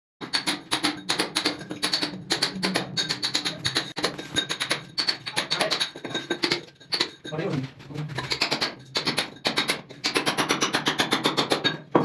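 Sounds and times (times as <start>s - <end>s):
music with clicking percussive beat: 0.2s - 7.2s, 8.2s - 11.9s.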